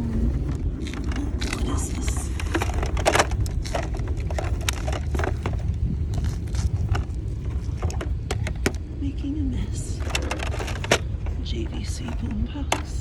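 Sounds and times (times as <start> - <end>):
steady low rumble: 0.0 - 13.0
clicks knocks and rustles: 0.5 - 8.8, 10.0 - 13.0.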